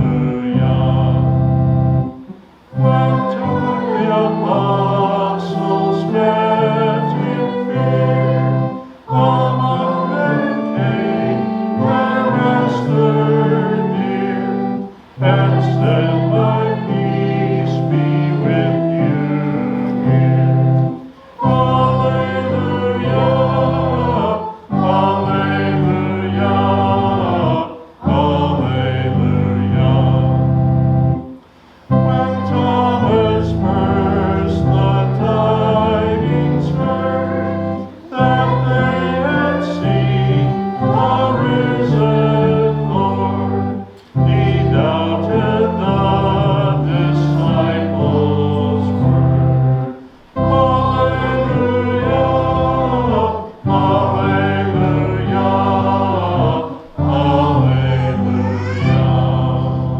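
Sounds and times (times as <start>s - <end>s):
organ accompaniment: 0.0s - 59.9s
voices singing a hymn: 0.0s - 59.9s.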